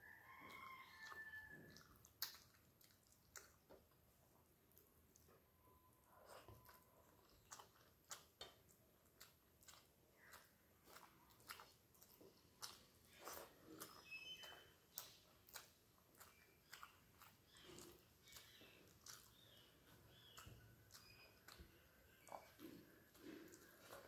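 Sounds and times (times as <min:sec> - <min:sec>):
person chewing with wet smacks: 0:00.0 - 0:24.0.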